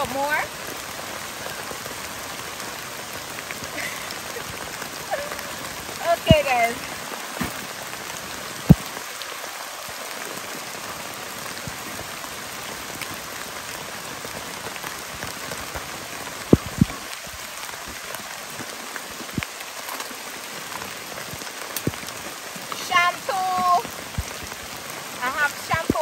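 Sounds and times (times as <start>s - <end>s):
rain on a tent and leaves: 0.0s - 26.0s.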